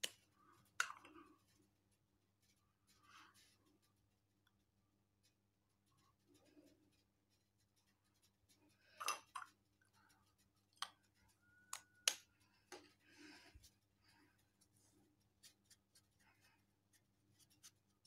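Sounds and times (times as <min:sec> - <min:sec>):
faint clicks and taps: 0:00.0 - 0:17.8.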